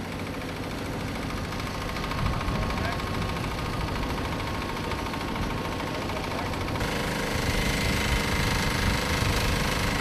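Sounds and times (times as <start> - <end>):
pressure-washer pump pulsing: 0.0 - 10.0.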